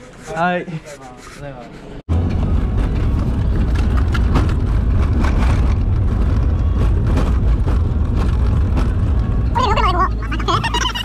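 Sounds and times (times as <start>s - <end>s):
car engine and road noise: 1.8s - 11.0s.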